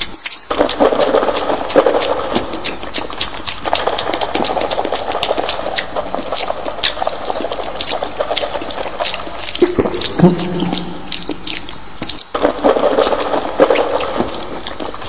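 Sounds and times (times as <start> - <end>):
mouths eating with wet smacks: 0.0 - 15.0
wet squelching: 0.0 - 15.0.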